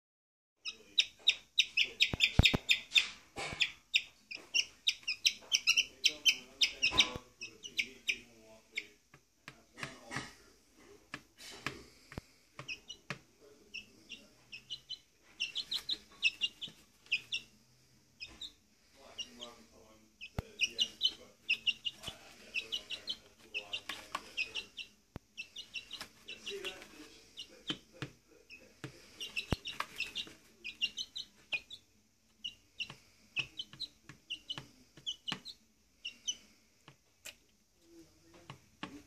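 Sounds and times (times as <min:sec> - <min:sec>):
chick peeping: 0:00.6 - 0:10.2, 0:11.1 - 0:39.0.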